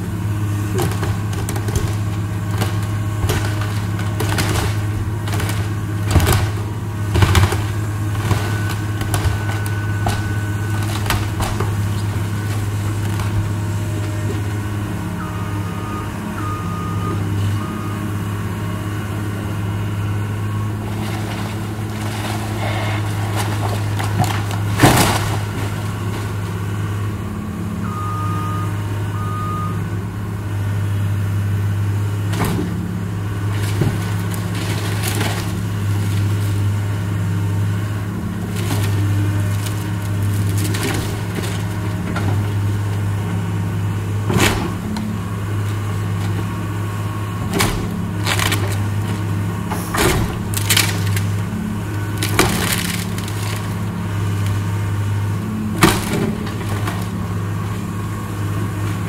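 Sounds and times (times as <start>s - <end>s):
excavator diesel engine running: 0.0s - 59.0s
breaking timber cracks and crashes: 0.5s - 14.7s, 20.4s - 28.2s, 32.2s - 59.0s.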